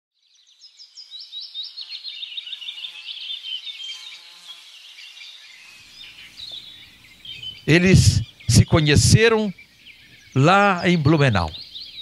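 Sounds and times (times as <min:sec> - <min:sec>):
birds chirping: 0:00.4 - 0:12.0.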